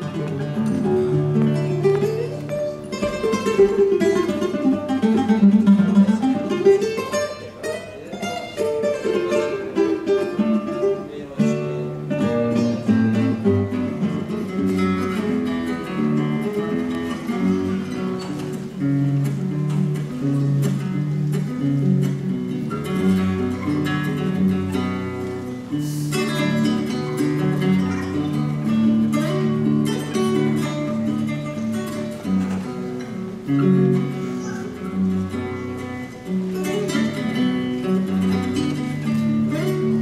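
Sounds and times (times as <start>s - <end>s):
classical guitar fingerpicked: 0.0s - 40.0s.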